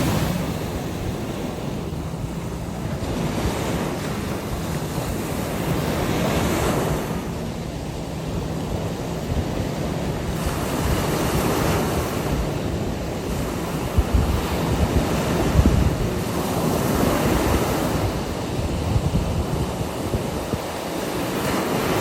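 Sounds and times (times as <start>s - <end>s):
ocean waves breaking on beach: 0.0s - 22.0s
wind buffeting microphone: 0.0s - 22.0s.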